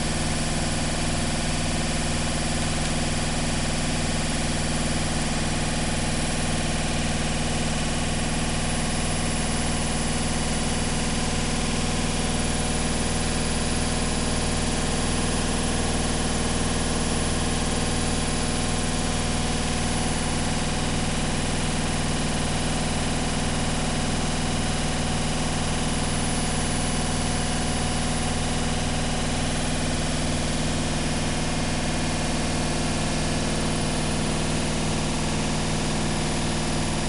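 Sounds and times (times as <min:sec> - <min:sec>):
washing machine running: 0:00.0 - 0:37.0.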